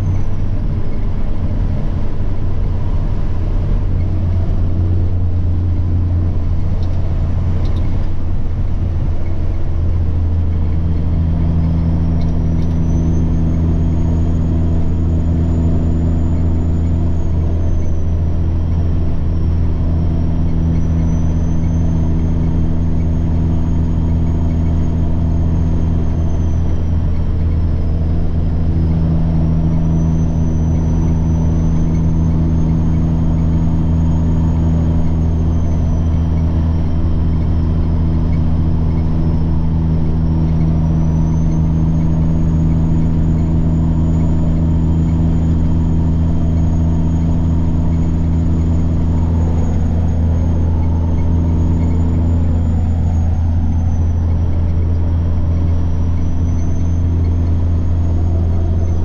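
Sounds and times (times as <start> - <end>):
diesel truck engine running: 0.0 - 59.0
high turbo whine: 0.0 - 59.0.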